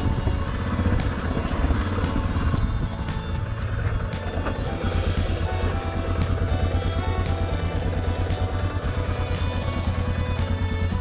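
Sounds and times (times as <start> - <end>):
background music with steady beat: 0.0 - 11.0
heavy steady bass: 0.0 - 11.0.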